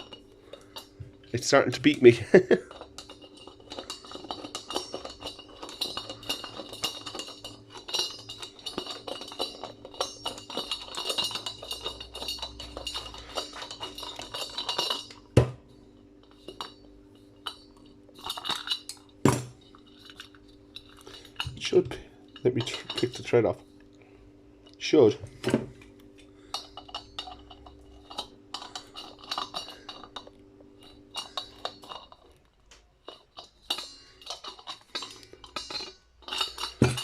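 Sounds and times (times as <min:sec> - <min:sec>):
metal parts clinking and rattling: 0:00.0 - 0:23.7, 0:24.7 - 0:37.0.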